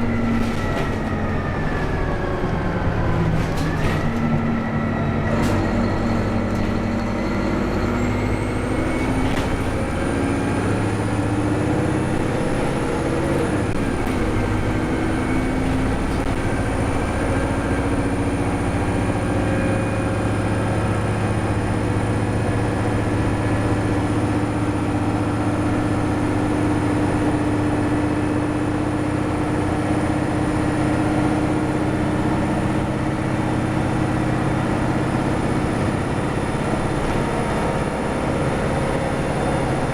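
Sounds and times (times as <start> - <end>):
diesel engine drone: 0.0 - 39.9
road noise: 0.0 - 39.9.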